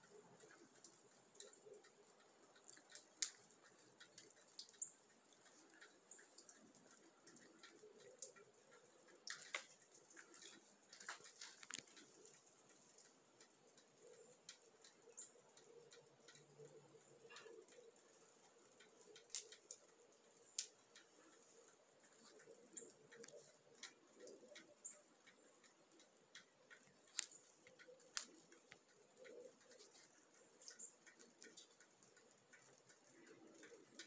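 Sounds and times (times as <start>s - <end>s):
faint ticks and clicks: 0.0s - 34.0s.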